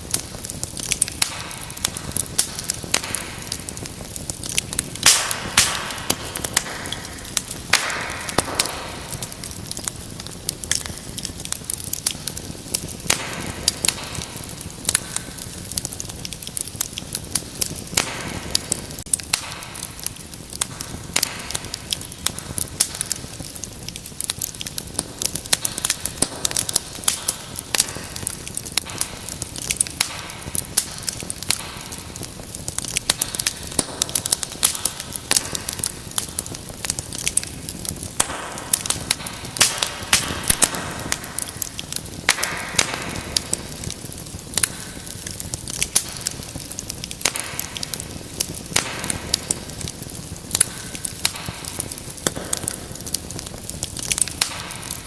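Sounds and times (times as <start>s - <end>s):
fire crackling and popping: 0.0s - 55.0s
low rush of flame: 0.0s - 55.0s.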